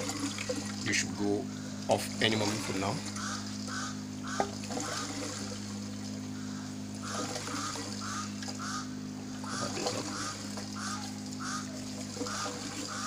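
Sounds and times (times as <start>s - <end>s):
air pump humming: 0.0s - 13.0s
siphon gurgling burbles: 0.0s - 13.0s.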